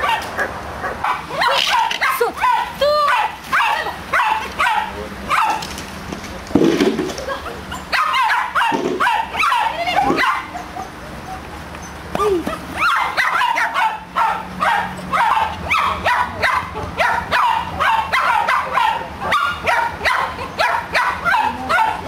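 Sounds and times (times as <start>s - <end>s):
dog yipping: 0.0s - 5.6s, 7.7s - 22.0s.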